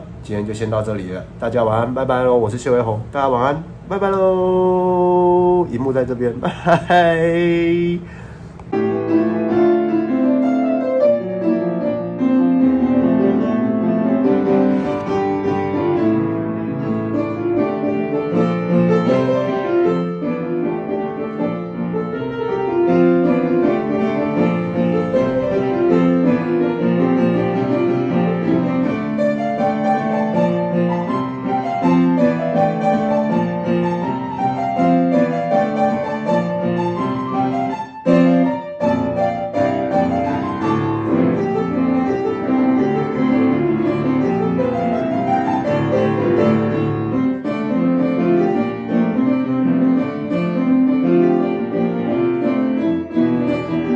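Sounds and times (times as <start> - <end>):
piano music: 0.0 - 53.9.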